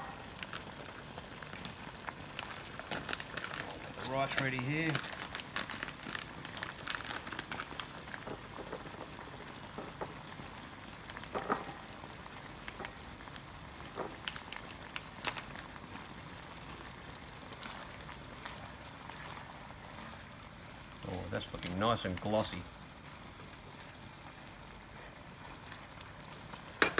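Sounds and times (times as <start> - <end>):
stir-fry sizzling in a wok: 0.0 - 26.9.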